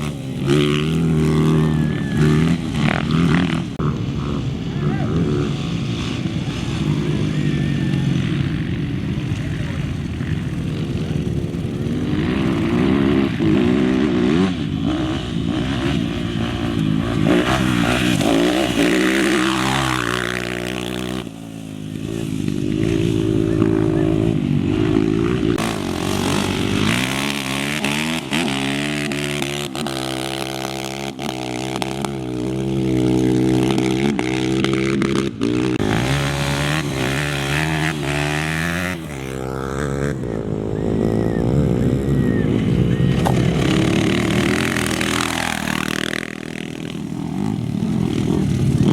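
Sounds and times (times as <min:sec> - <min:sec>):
race engines revving: 0:00.0 - 0:48.9.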